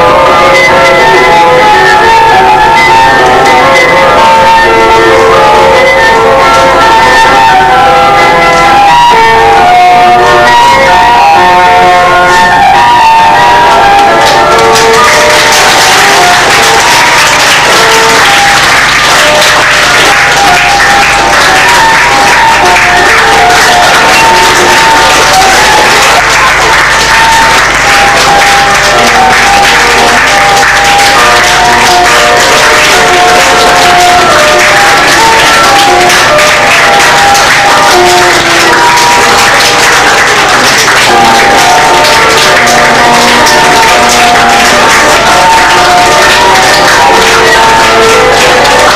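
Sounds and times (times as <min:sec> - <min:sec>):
audience applause: 0:00.0 - 0:48.9
music with simple melody: 0:00.0 - 0:48.9.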